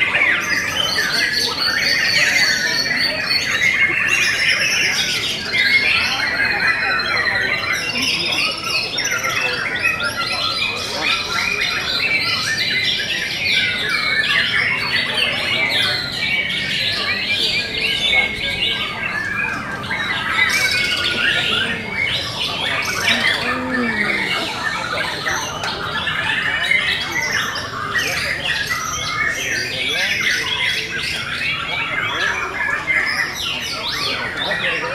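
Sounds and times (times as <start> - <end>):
birds singing: 0.0 - 34.9.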